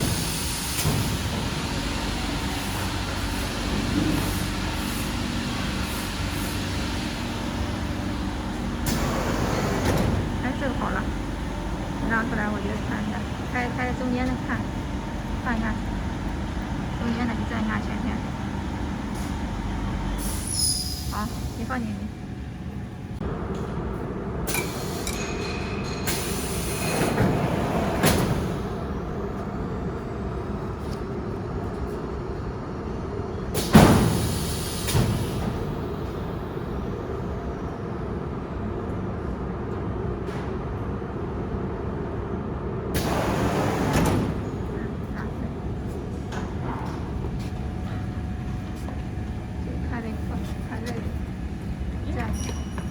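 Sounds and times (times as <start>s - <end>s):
workshop machinery hum: 0.0s - 52.9s.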